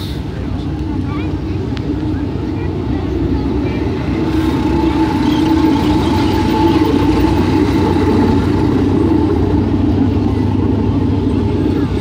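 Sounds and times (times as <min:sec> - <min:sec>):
tracked vehicle engine droning: 0:00.0 - 0:12.0
thin engine whine: 0:00.2 - 0:12.0.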